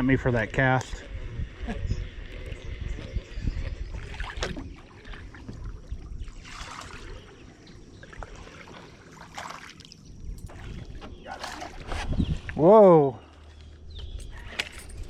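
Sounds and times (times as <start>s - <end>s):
water lapping against boat hull: 0.4s - 15.0s.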